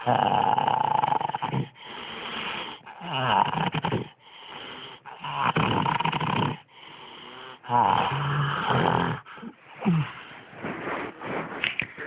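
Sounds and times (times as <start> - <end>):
person snoring: 0.0 - 10.4.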